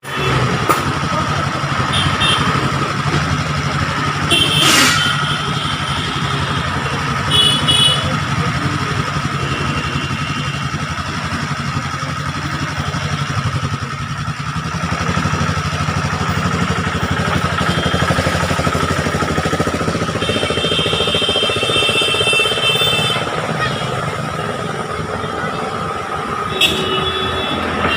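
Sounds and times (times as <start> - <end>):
vehicle engines running: 0.0 - 27.9.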